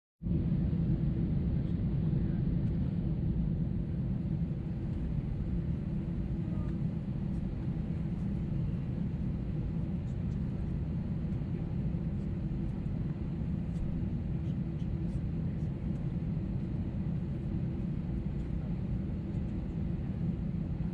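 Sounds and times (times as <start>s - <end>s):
aircraft engine rumble in cabin: 0.3s - 20.9s.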